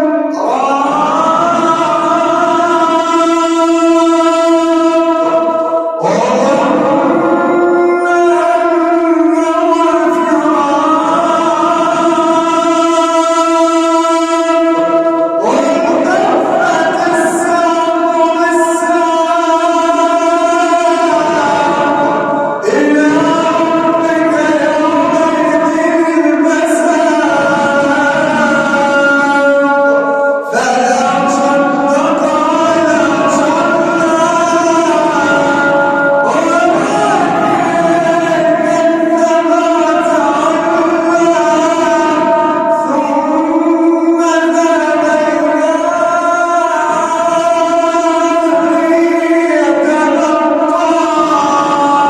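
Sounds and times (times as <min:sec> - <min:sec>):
man chanting recitation: 0:00.0 - 0:52.0.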